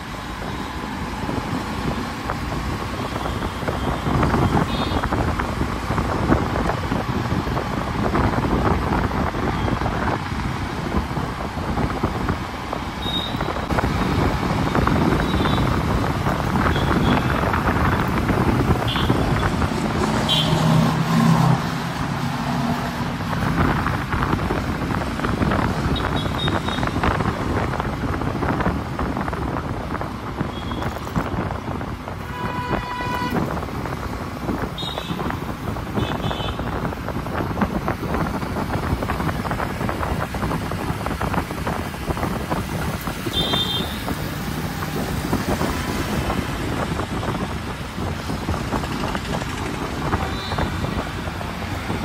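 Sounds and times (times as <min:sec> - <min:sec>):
road and traffic noise: 0:00.0 - 0:52.0
wind buffeting microphone: 0:00.0 - 0:52.0.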